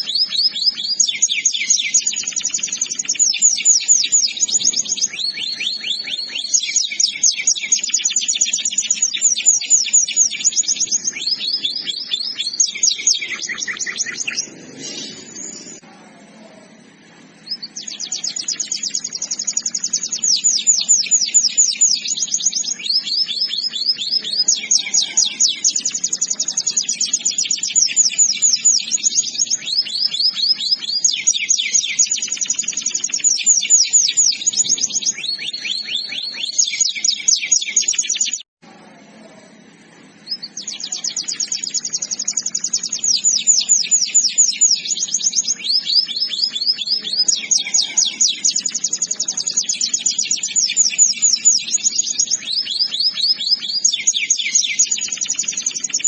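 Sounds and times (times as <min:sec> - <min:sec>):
canary singing trills: 0:00.0 - 0:38.5, 0:39.4 - 0:56.0.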